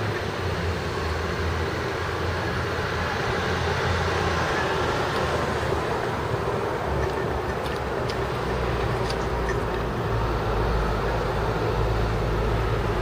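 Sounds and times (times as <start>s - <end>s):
broad street hiss: 0.0s - 13.0s
low engine rumble: 0.0s - 13.0s.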